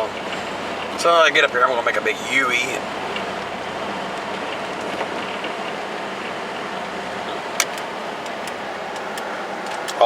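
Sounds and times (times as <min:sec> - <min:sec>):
engine and road noise: 0:00.0 - 0:10.0.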